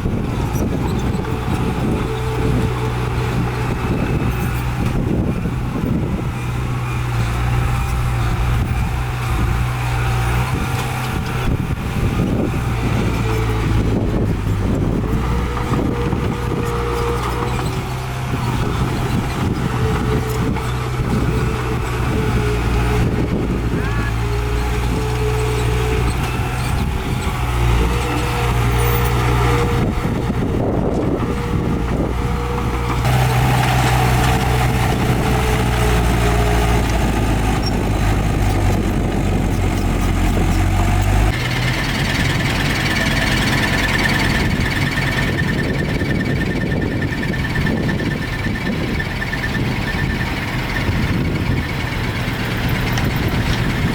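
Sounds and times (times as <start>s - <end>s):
heavy diesel engines running: 0.0s - 53.9s.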